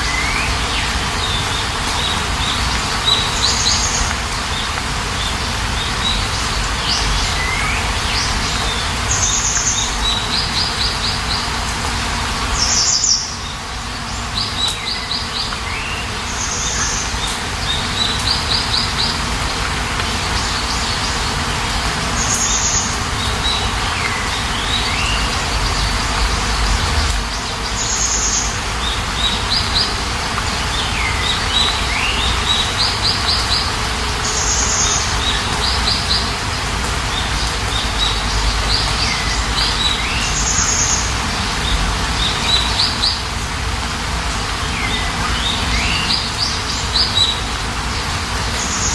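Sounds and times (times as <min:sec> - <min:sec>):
songbird singing: 0:00.0 - 0:48.9
steady rain hiss: 0:00.0 - 0:48.9.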